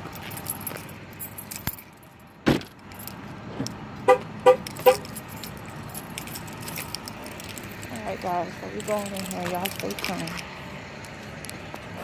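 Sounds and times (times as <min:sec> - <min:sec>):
car keys jangling: 0:00.0 - 0:12.0.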